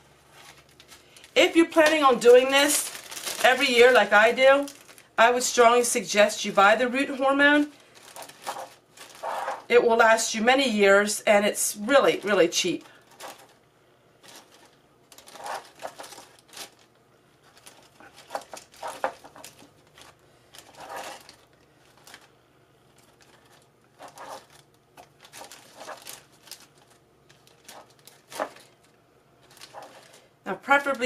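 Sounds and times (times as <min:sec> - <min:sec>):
plastic bag crinkling: 0:00.2 - 0:10.0, 0:11.7 - 0:13.6, 0:14.2 - 0:31.0.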